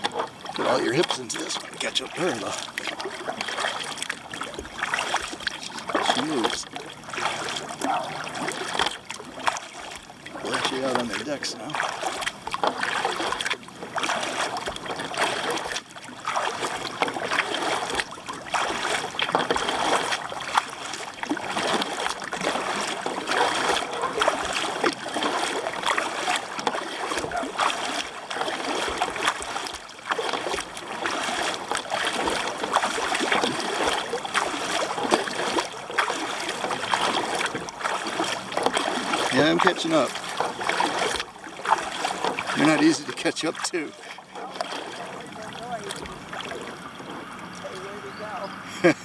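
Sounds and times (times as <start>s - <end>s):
kayak paddle strokes splashing: 0.0s - 49.0s
water rushing along hull: 0.0s - 49.0s.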